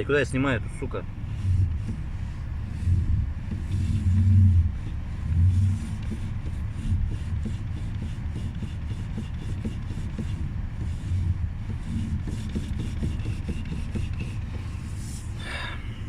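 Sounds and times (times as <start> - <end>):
car engine idling: 0.0 - 16.0
faint light knocks from steering: 0.0 - 16.0.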